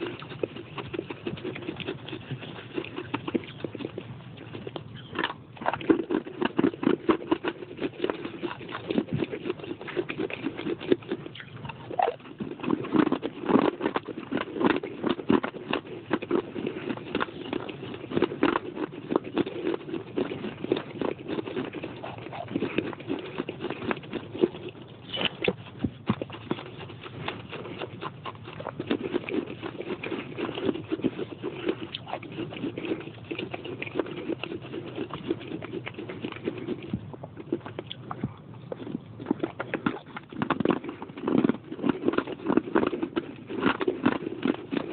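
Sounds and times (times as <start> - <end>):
chewing clay pot pieces: 0.0 - 44.9.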